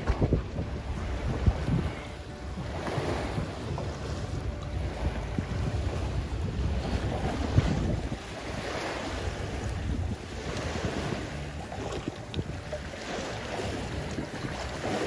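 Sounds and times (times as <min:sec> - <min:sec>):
water slapping against boat: 0:00.0 - 0:15.0
wind buffeting microphone: 0:00.0 - 0:15.0.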